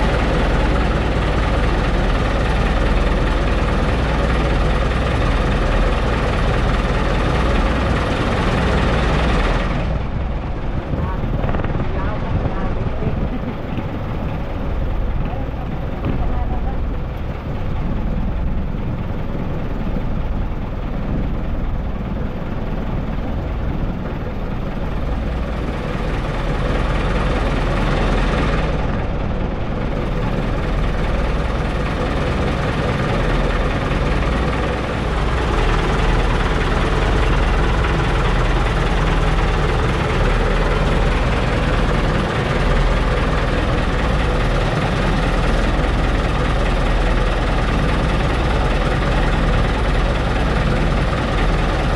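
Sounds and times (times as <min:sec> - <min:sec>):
boat engine humming: 0:00.0 - 0:51.9.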